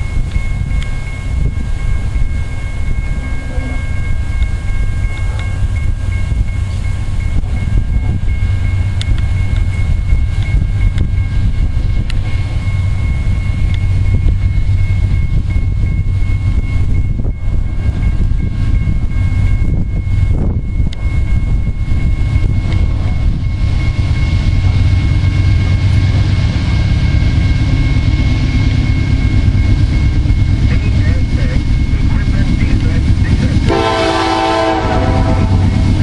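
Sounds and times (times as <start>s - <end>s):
diesel locomotive rumble: 0.0s - 36.0s.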